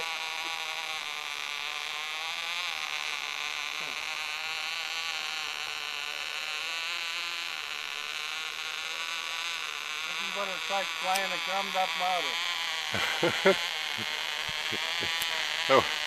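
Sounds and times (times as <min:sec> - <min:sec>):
model plane engine buzzing: 0:00.0 - 0:16.0.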